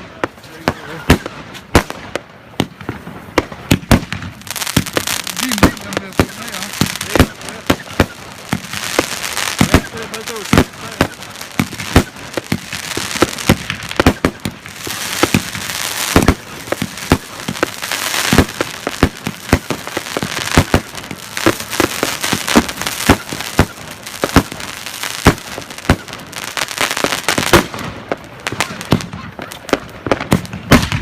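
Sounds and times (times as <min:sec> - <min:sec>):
fireworks bangs: 0:00.0 - 0:31.0
fireworks crackling and hissing: 0:00.0 - 0:31.0.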